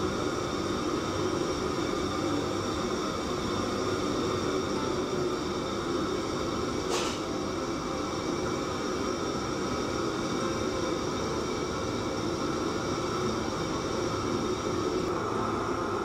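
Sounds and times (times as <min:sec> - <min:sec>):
faint steady hums: 0:00.0 - 0:16.0.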